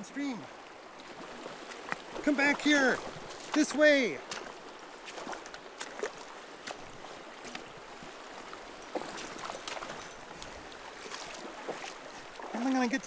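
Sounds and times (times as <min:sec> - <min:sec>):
river running over rocks: 0:00.0 - 0:13.0.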